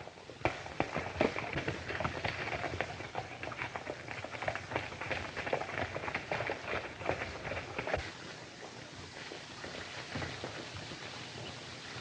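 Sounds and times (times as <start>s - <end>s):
film soundtrack hiss: 0.0s - 12.0s
horse hoofbeats on dirt: 0.0s - 12.0s.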